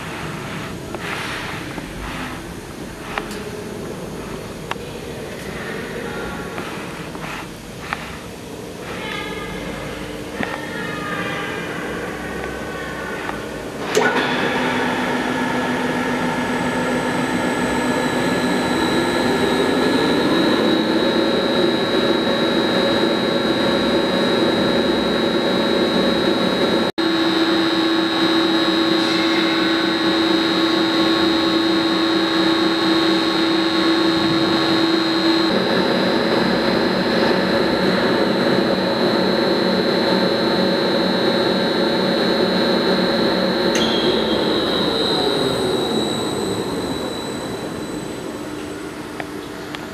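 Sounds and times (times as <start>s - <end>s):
mixer motor whining: 9.7s - 49.9s.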